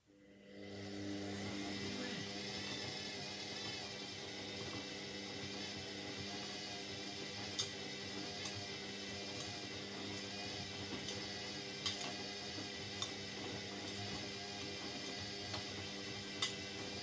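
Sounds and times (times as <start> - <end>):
washing machine humming: 0.6 - 17.0.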